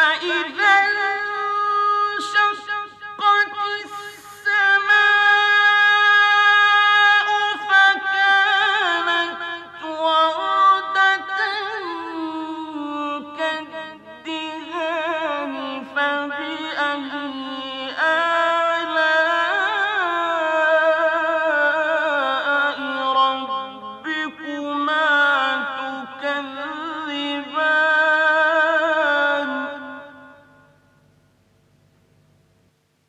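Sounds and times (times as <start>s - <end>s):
man chanting melodic recitation: 0.0s - 30.7s.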